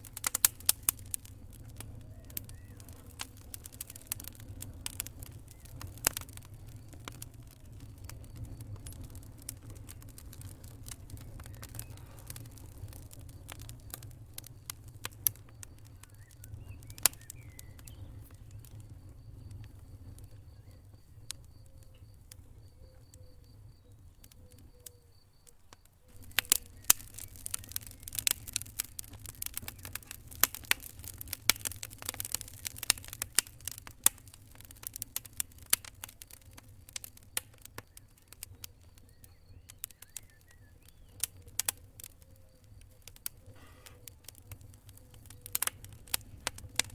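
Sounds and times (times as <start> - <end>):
low rumble of flame: 0.0 - 46.9
sharp pops of fire: 0.0 - 46.9
wood fire crackling: 0.0 - 46.9.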